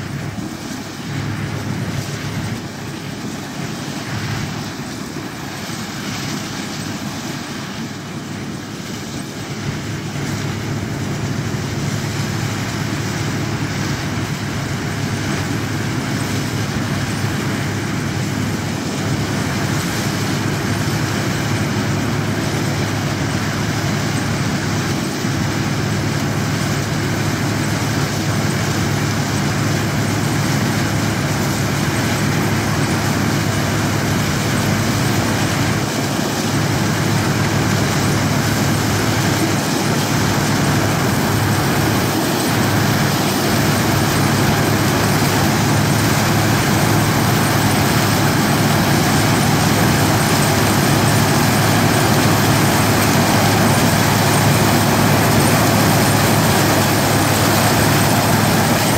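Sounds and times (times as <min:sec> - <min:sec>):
combine harvester running: 0:00.0 - 0:58.9.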